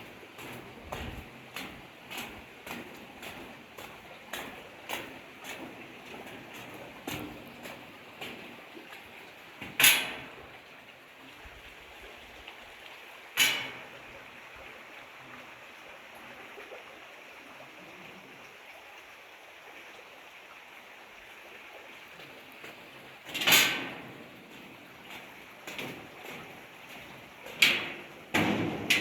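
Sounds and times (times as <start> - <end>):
creek rushing: 0.0 - 29.0.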